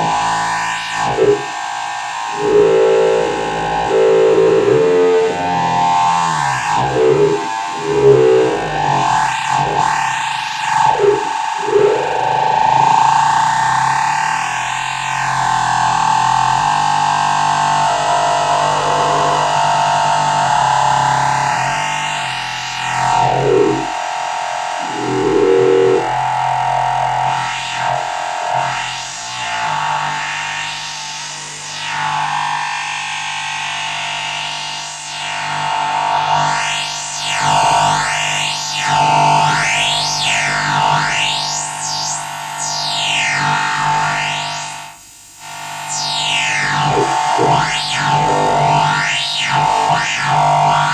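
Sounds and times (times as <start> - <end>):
buzzing synthesizer lead: 0.0 - 50.9.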